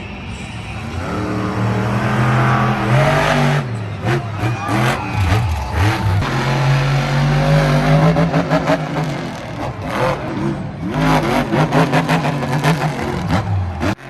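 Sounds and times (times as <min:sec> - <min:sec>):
truck engine revving hard: 0:00.8 - 0:14.0.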